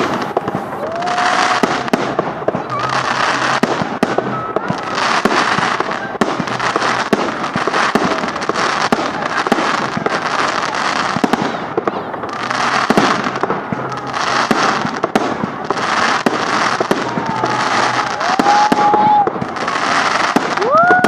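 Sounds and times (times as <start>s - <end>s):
faint fireworks whistles: 0.0s - 21.0s
fireworks bangs and crackling: 0.0s - 21.0s.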